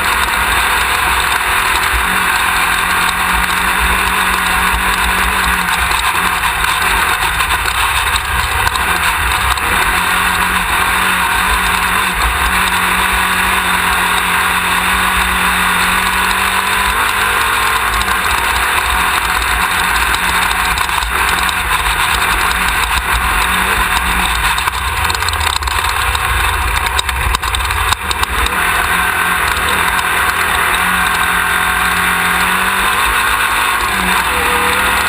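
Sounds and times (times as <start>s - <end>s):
race buggy engine running hard: 0.0s - 35.0s
wind and road noise: 0.0s - 35.0s.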